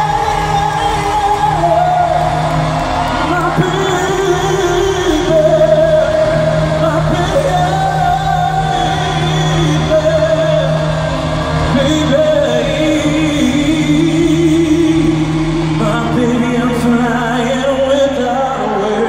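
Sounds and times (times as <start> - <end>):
male vocal group singing ballad: 0.0 - 19.0.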